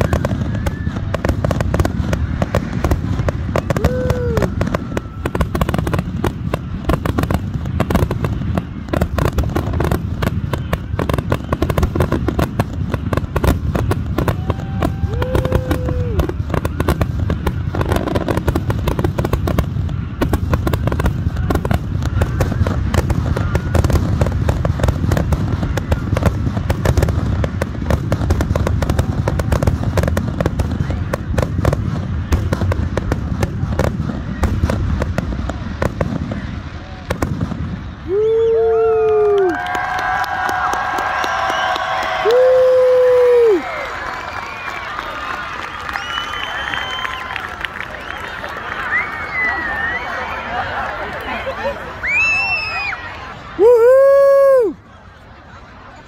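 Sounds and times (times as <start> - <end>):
fireworks bursting and crackling: 0.0 - 55.4.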